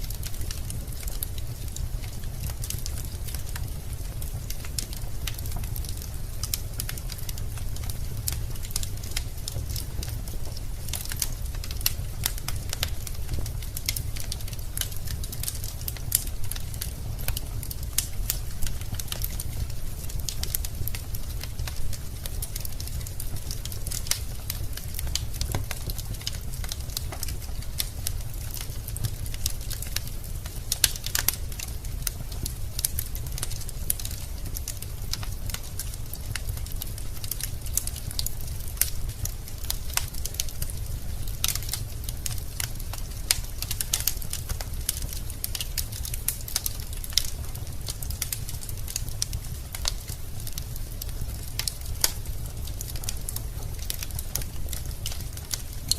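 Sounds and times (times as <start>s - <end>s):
fire low rumble: 0.0s - 55.9s
logs crackling and popping: 0.0s - 55.9s.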